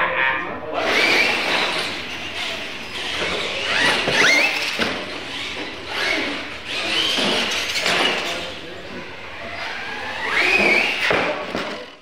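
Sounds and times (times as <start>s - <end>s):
toy car motors whining: 0.8s - 12.0s.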